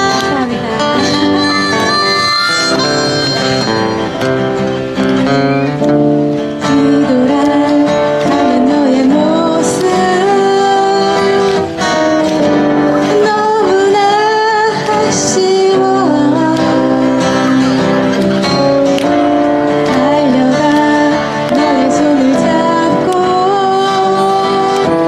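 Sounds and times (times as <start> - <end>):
person singing: 0.0 - 3.8, 6.6 - 12.1, 12.8 - 18.7, 19.7 - 25.0
strummed acoustic guitar: 0.0 - 25.0.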